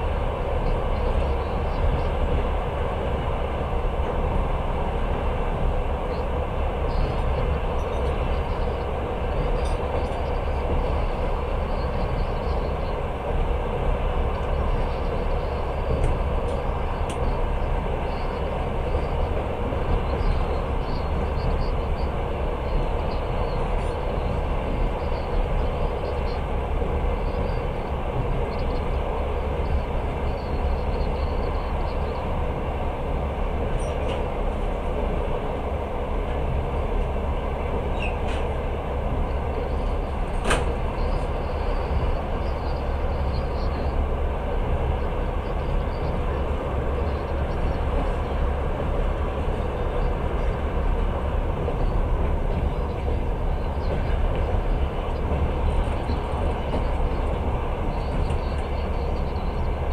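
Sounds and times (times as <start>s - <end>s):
train rumble from inside carriage: 0.0s - 59.9s.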